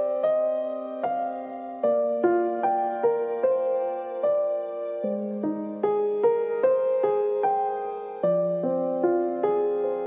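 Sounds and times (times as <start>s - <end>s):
slow gentle music: 0.0s - 10.0s.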